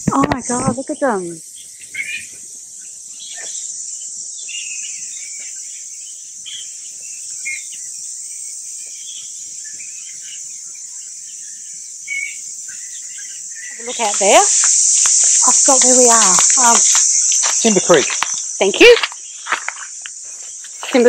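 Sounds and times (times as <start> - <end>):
high insect drone: 0.0 - 21.0
flying foxes squeaking and chirping: 0.1 - 21.0.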